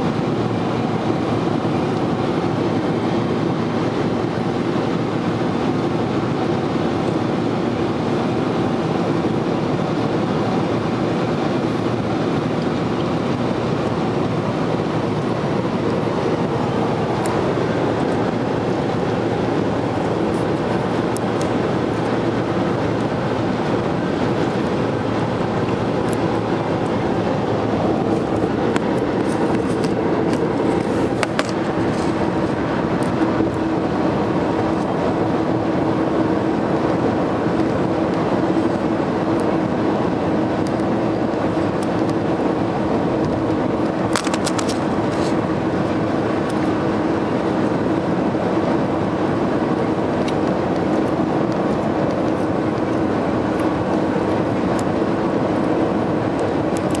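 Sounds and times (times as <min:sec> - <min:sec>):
steady low hum: 0:00.0 - 0:57.0
tyre and wind noise: 0:00.0 - 0:57.0.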